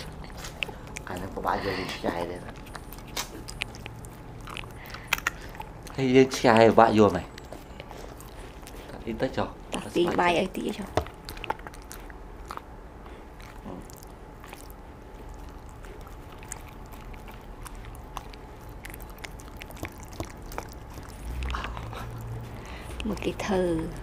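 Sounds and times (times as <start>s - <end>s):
dog licking and chewing: 0.0s - 24.0s.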